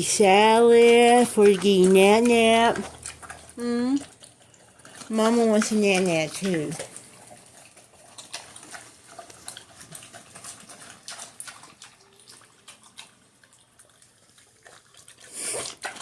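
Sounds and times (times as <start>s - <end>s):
pig chewing and slurping: 0.0s - 16.0s.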